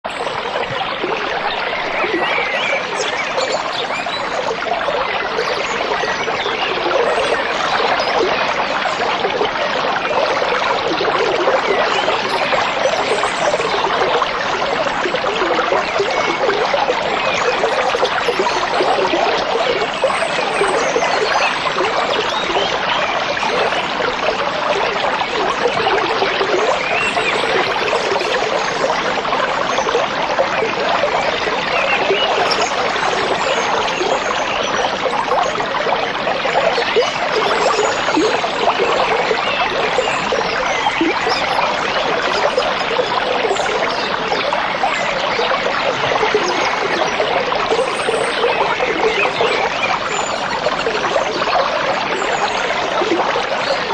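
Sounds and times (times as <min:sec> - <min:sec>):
stream trickling over stones: 0:00.1 - 0:53.9.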